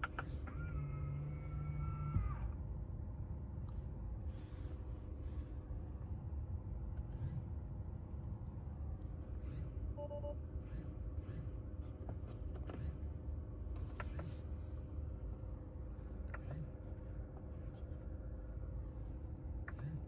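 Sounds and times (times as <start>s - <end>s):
car climate fan blowing: 0.0s - 20.0s.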